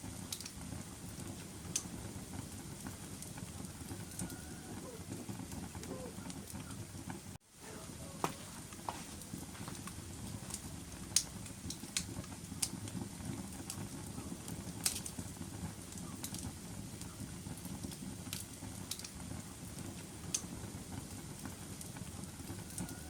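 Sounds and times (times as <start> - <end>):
fire crackles and pops: 0.0 - 23.0
fire flames rumbling: 0.0 - 23.0.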